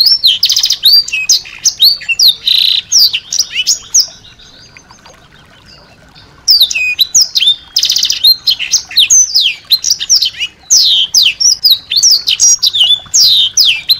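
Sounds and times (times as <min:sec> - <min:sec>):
songbird singing: 0:00.0 - 0:13.9.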